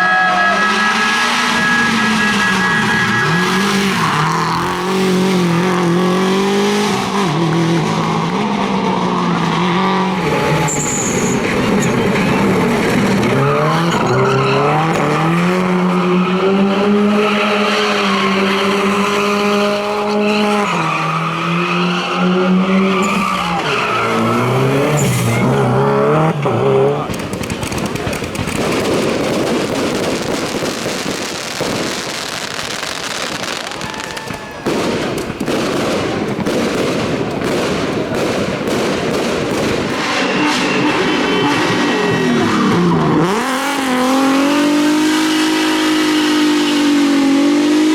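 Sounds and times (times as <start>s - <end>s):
rally car engine revving: 0.0s - 32.0s, 34.6s - 47.9s.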